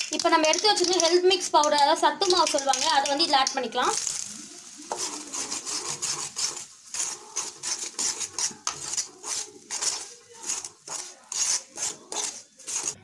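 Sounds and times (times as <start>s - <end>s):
spoon scraping metal pan: 0.0s - 13.0s.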